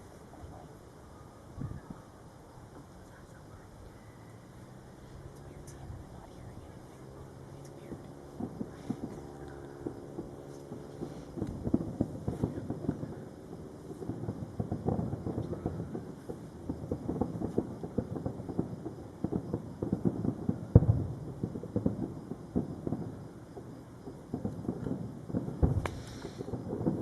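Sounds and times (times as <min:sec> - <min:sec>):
distant fireworks booms and crackles: 0:00.0 - 0:27.0.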